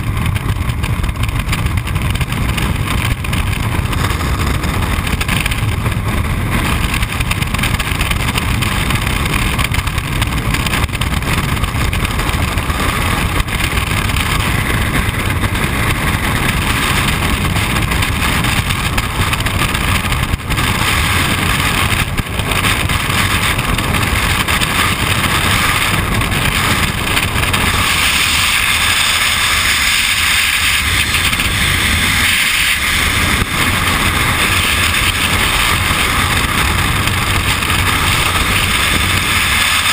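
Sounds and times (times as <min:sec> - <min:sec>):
freefall wind buffeting microphone: 0:00.0 - 0:39.9.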